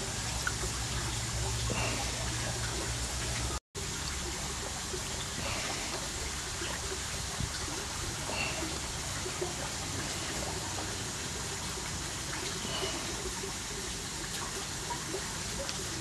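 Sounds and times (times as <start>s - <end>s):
running water: 0.0s - 16.0s
small splashes: 0.0s - 16.0s.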